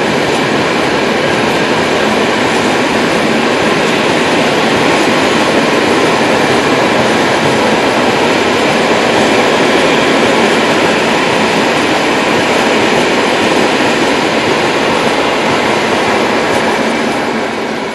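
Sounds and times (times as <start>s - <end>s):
train wheels rolling on rails: 0.0s - 17.9s.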